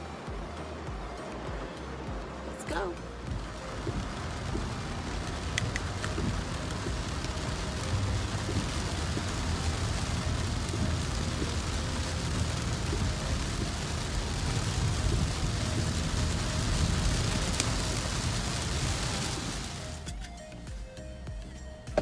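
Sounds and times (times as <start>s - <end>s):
car rumbling on wet road: 0.0s - 20.0s
heavy rain on car roof: 0.0s - 20.1s.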